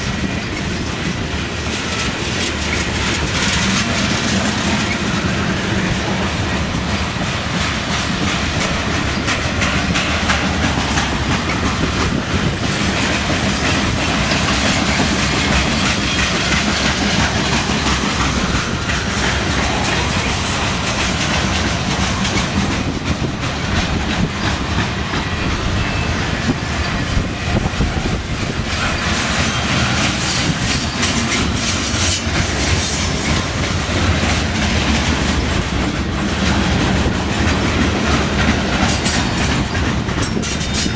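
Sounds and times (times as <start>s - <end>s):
freight train wheels rumbling: 0.0s - 40.9s
wheels clacking over rail joints: 0.0s - 40.9s.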